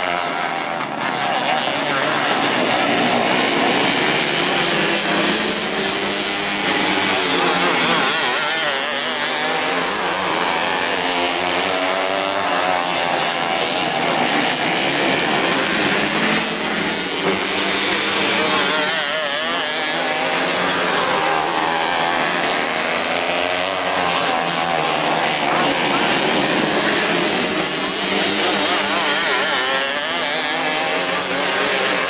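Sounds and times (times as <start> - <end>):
racing car engines revving: 0.0 - 32.0.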